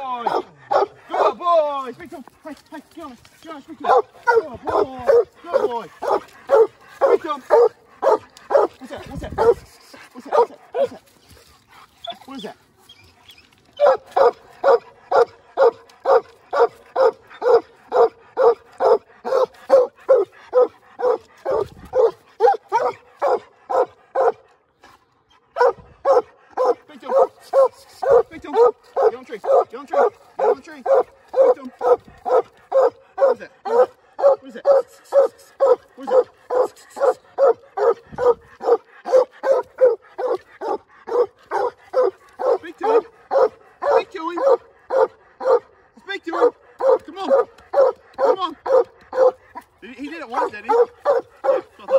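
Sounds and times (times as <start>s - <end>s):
hounds barking: 0.1s - 11.0s, 13.8s - 24.6s, 25.5s - 51.9s.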